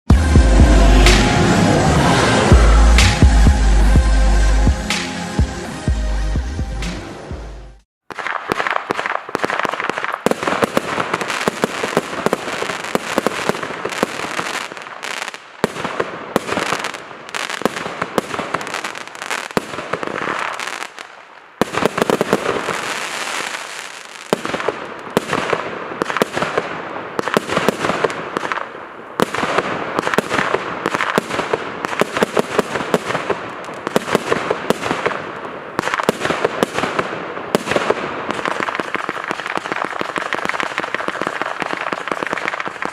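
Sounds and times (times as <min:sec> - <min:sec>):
firework crackling pops and bangs: 0:08.0 - 0:42.9.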